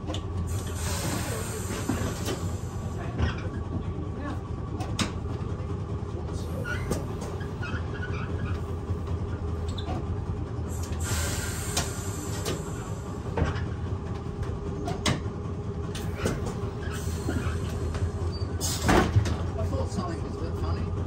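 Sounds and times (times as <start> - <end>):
tram low hum: 0.0 - 21.0.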